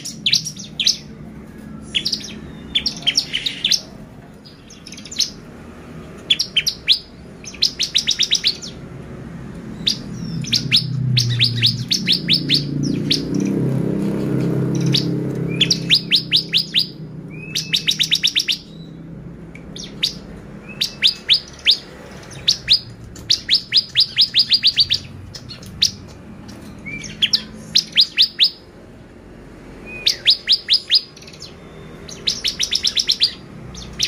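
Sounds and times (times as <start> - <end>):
bird singing high rapid notes: 0.0 - 9.0, 9.6 - 28.8, 29.8 - 34.0.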